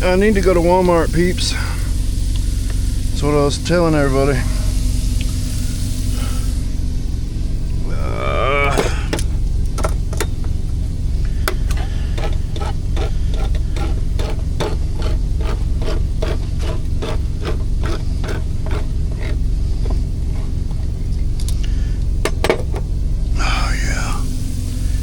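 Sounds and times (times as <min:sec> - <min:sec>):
low hum of truck generator: 0:00.0 - 0:25.0.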